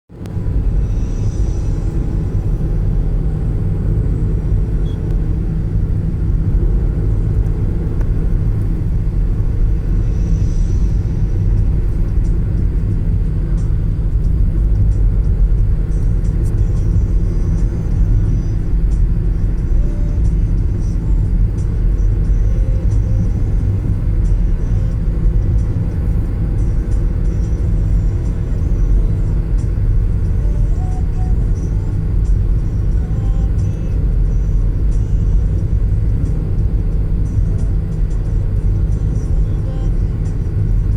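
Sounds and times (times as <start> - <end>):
motor vehicle rumble: 0.1 - 40.9.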